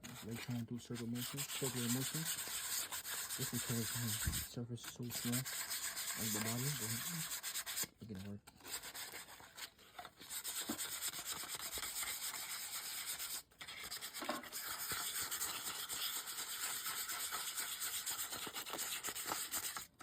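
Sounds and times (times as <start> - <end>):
hand sanding scratchy rubbing: 0.0 - 20.0.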